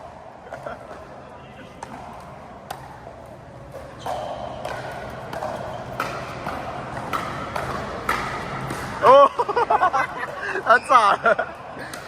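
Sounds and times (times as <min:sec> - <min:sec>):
background noise: 0:00.0 - 0:12.0.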